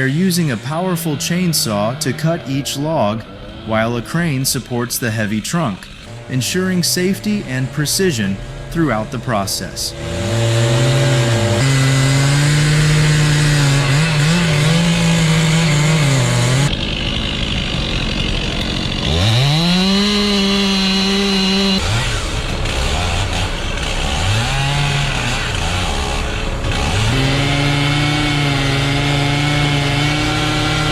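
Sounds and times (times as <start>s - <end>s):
chainsaw cutting log: 0.0s - 30.9s.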